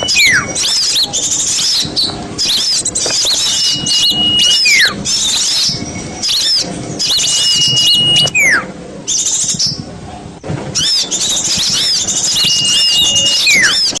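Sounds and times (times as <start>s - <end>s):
falling whistle: 0.0s - 9.8s, 10.8s - 14.0s
small songbirds chirping: 0.0s - 9.9s, 10.8s - 14.0s.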